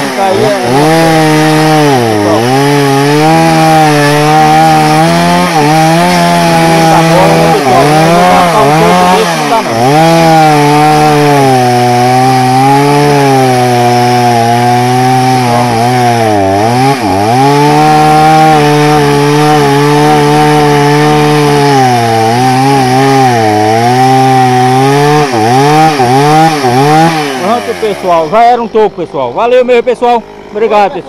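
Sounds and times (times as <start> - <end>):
chainsaw cutting log: 0.0 - 31.0.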